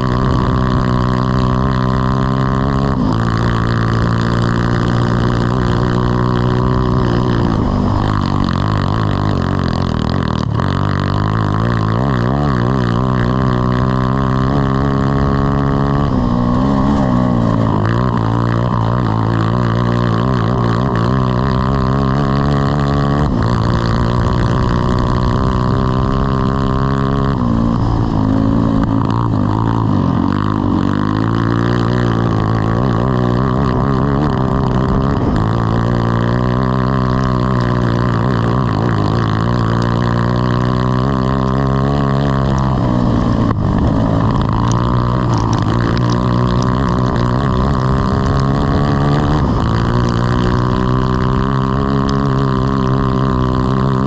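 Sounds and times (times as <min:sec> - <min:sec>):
kart engine revving: 0:00.0 - 0:54.0
second engine passing: 0:00.0 - 0:54.0.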